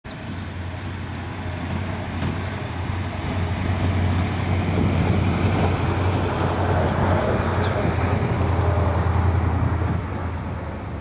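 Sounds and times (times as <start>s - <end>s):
low rumble of road traffic: 0.0s - 11.0s.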